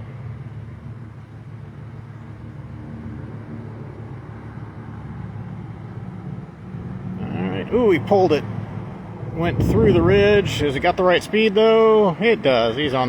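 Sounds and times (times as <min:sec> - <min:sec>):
low-pitched background hum: 0:00.0 - 0:13.0.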